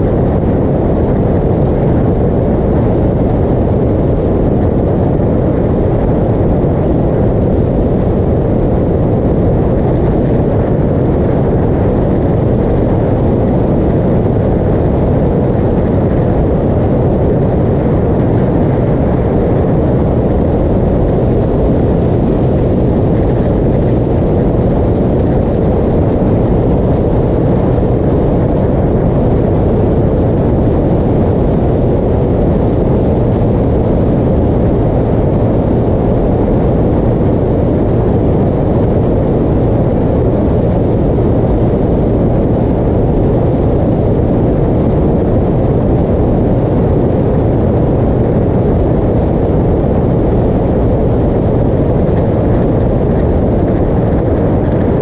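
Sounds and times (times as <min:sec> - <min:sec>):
motorcycle road noise: 0:00.0 - 0:55.0
wind rushing: 0:00.0 - 0:55.0.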